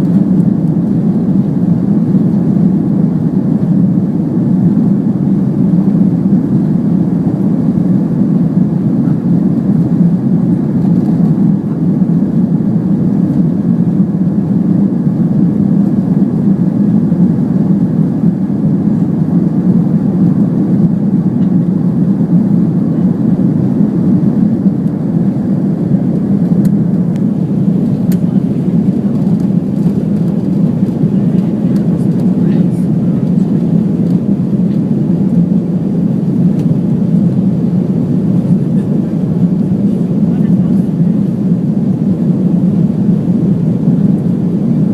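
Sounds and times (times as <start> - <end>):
jet cabin engine rush: 0.0 - 44.9.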